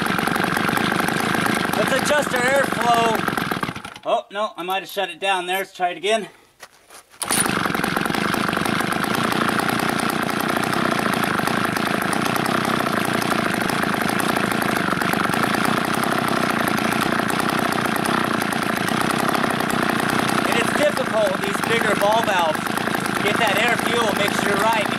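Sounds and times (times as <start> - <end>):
chainsaw engine running: 0.0 - 4.2, 7.2 - 24.9.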